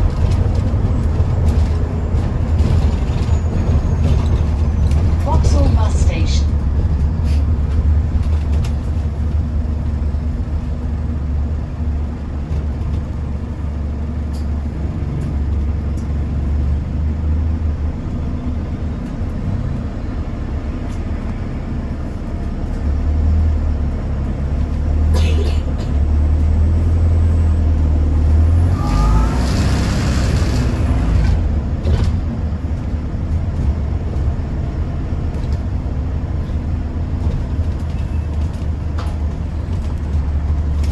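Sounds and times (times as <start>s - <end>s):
bus engine running: 0.0s - 40.9s.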